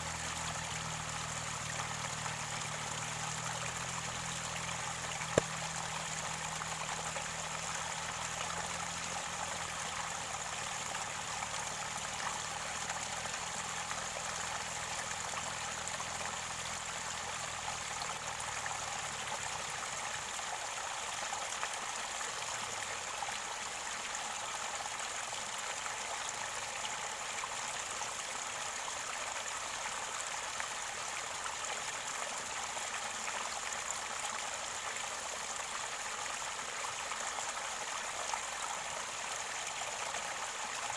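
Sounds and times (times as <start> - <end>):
stream water gurgling: 0.0 - 40.9.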